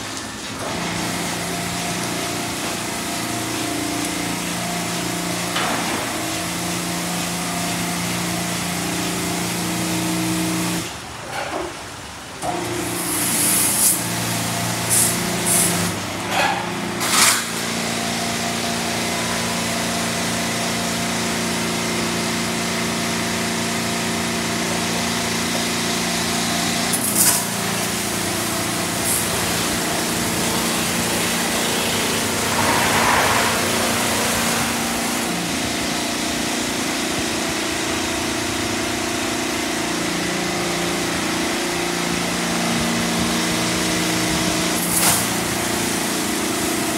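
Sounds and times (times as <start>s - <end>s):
spraying water: 0.0s - 10.9s, 12.6s - 38.4s, 41.0s - 46.9s
car wash motor hum: 0.0s - 46.9s.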